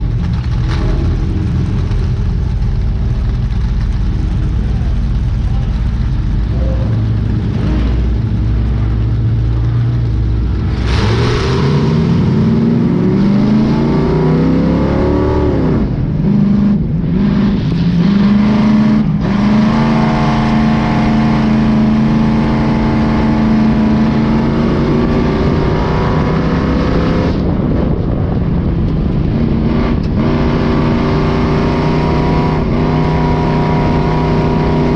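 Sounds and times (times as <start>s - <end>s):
race car engines revving: 0.0s - 34.9s.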